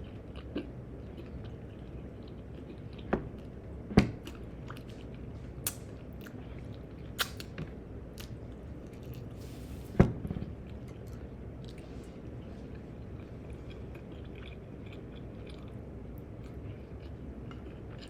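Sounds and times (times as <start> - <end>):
chewing food: 0.0 - 9.4, 10.6 - 18.0.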